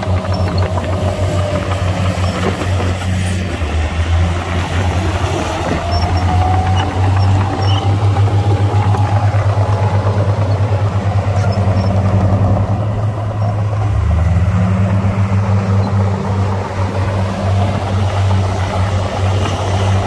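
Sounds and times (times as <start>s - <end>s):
heavy diesel engine throbbing: 0.0s - 20.0s.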